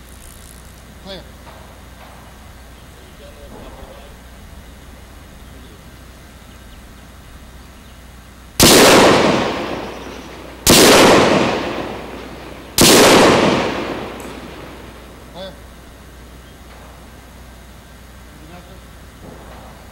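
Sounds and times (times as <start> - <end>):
rifle shots with long echo: 0.9 - 6.4, 8.6 - 18.3, 19.1 - 19.9.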